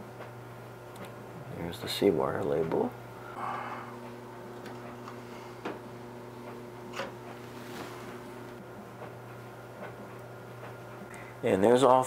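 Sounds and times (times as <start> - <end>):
low hum: 1.2 - 11.3.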